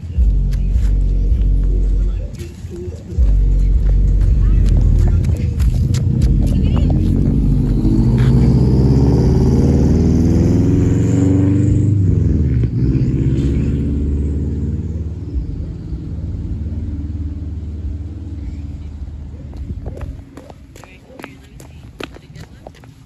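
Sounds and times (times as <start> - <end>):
car engine accelerating: 0.0 - 20.8.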